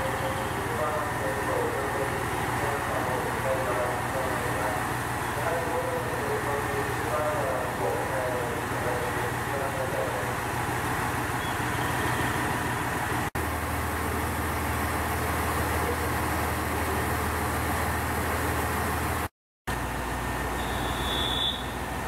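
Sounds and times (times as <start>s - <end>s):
diesel railcar engine idling: 0.0s - 22.0s.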